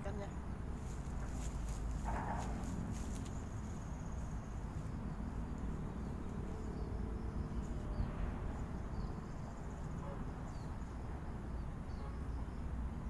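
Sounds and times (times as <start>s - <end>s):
wind rumble on microphone: 0.0s - 13.0s
insects buzzing: 0.2s - 13.0s.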